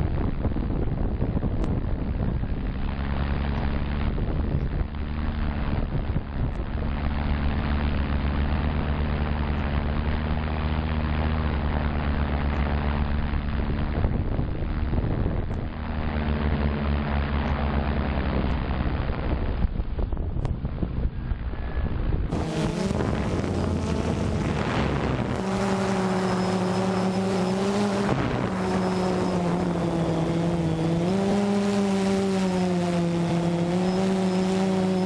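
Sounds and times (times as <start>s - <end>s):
drone motors humming: 0.0s - 35.0s
wind on microphone: 0.0s - 35.0s.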